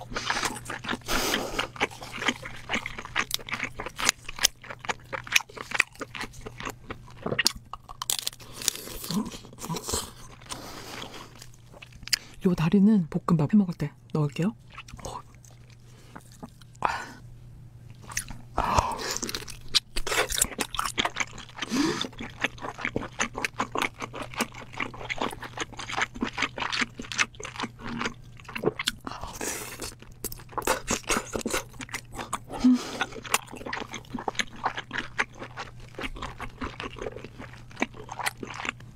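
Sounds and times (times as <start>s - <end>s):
wet chewing and biting: 0.0s - 12.4s, 17.9s - 38.9s.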